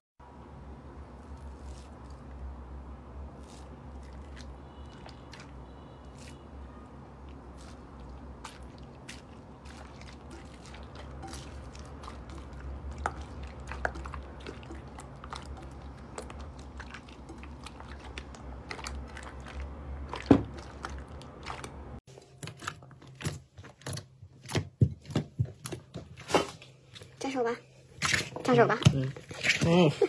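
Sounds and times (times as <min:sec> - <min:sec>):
slime crunching and squishing: 0:01.2 - 0:02.4, 0:03.3 - 0:06.5, 0:07.2 - 0:27.4.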